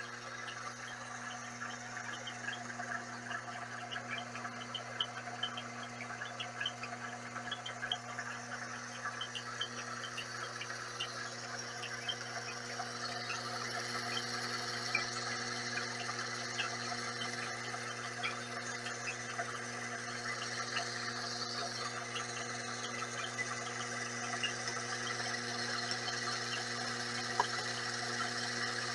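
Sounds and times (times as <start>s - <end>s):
lathe motor hum: 0.0s - 28.9s
light ticks: 0.0s - 28.9s.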